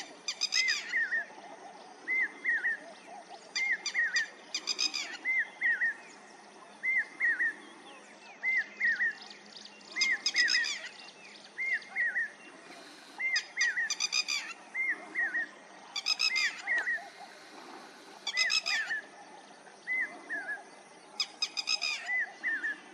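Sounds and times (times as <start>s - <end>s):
lapwing calling: 0.0s - 6.2s, 6.8s - 22.9s.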